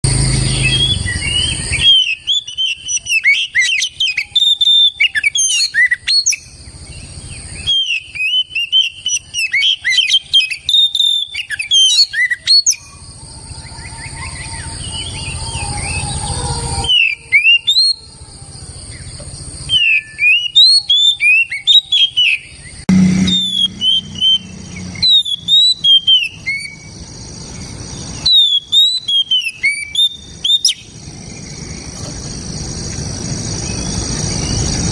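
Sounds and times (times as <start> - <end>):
magpie-robin singing whistled song: 0.1 - 16.2, 16.8 - 18.0, 18.9 - 31.9.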